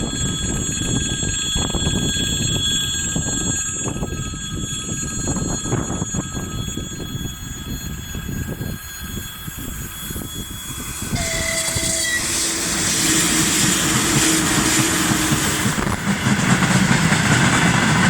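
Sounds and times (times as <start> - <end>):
high-pitched ringing tones: 0.0 - 18.0
train rumbling past: 0.0 - 18.0
train wheels clacking: 0.0 - 18.0.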